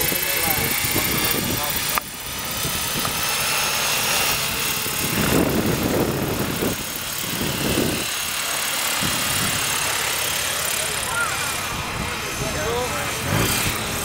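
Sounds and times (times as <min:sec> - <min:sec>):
model aircraft engine whining: 0:00.0 - 0:14.0.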